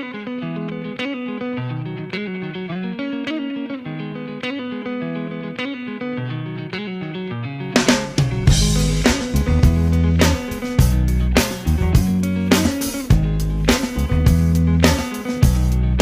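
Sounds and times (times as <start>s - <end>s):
guitar playing repeating riff: 0.0s - 16.0s.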